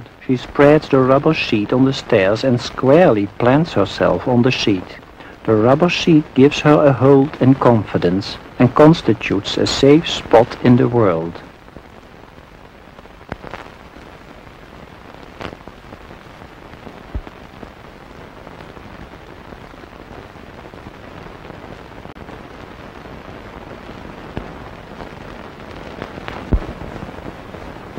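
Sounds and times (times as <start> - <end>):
old film soundtrack hiss and crackle: 0.0 - 27.9.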